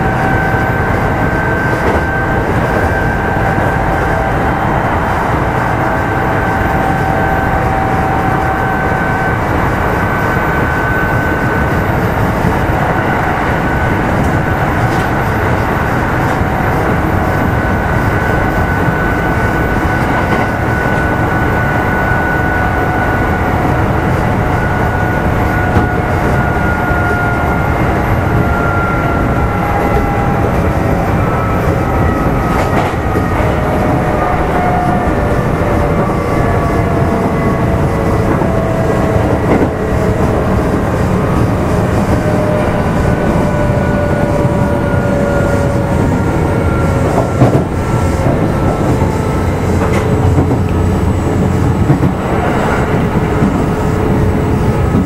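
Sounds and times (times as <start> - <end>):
traction motor and gear whine: 0.0 - 55.0
train wheels rumbling on rail: 0.0 - 55.0.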